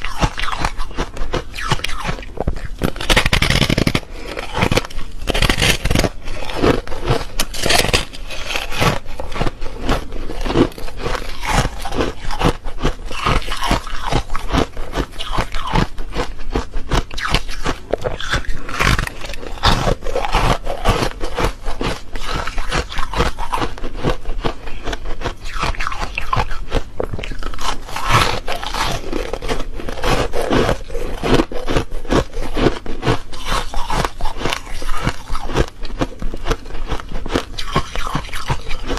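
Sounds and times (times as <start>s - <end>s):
crunchy ice chewing: 0.0s - 38.9s.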